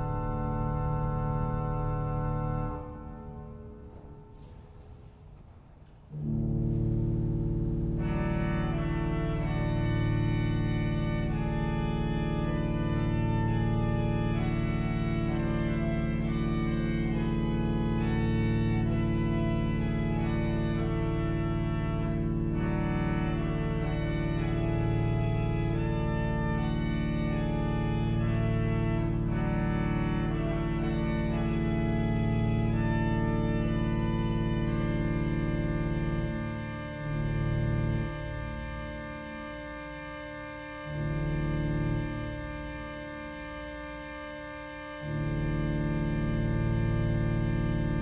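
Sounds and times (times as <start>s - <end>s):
organ pedal bass: 0.0s - 4.2s, 6.1s - 48.0s
organ playing sustained chords: 0.0s - 48.0s.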